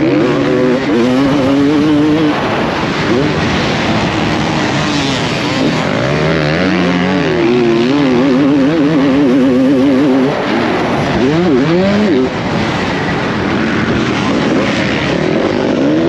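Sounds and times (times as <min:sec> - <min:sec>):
motocross engine revving: 0:00.0 - 0:16.0
wind rushing over microphone: 0:00.0 - 0:16.0.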